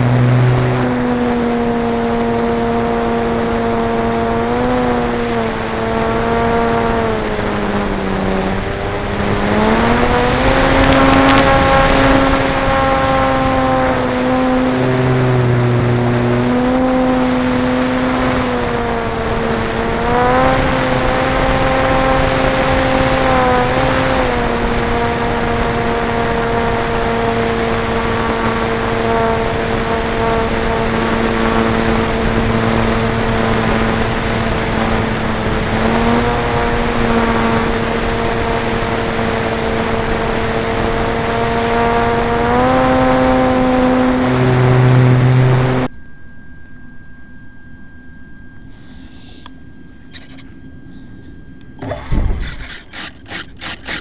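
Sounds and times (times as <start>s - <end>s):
rushing wind: 0.0s - 45.9s, 50.2s - 54.0s
electric motor and propeller whine: 0.0s - 54.0s.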